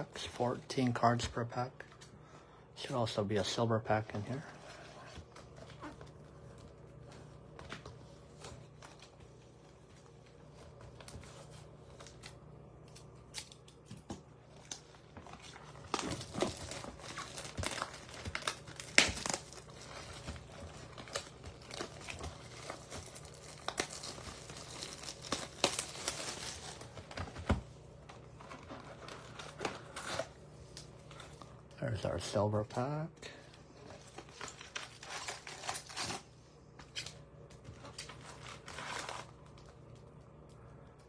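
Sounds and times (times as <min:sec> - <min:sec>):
wrapping crinkling and tearing: 0:03.9 - 0:40.6.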